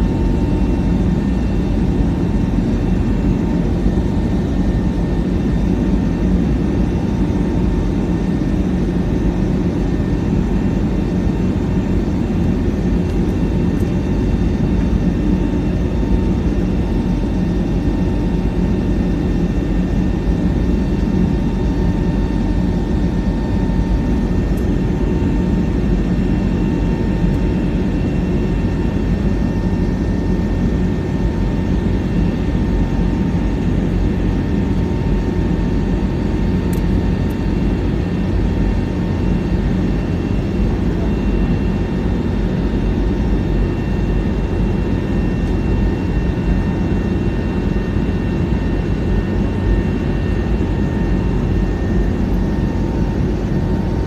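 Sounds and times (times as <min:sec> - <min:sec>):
airliner cabin engine rush: 0:00.0 - 0:54.0
faint steady whine: 0:00.0 - 0:54.0.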